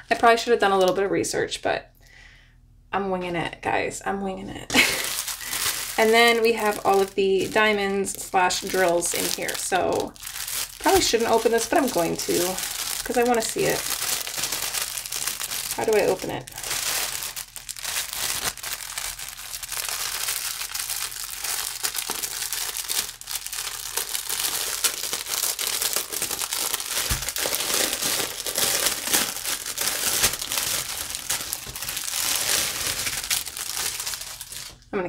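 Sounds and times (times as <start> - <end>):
plastic packaging crinkling: 4.7 - 34.9.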